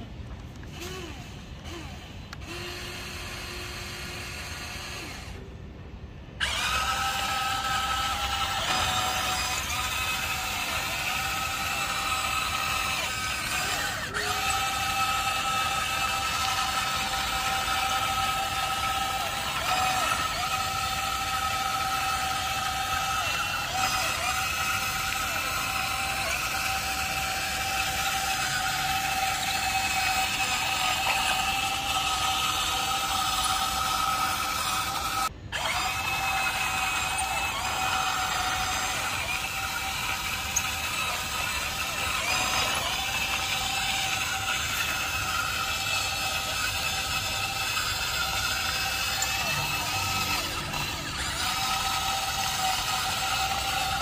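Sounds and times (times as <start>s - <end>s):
electric motors whining: 0.0s - 54.0s.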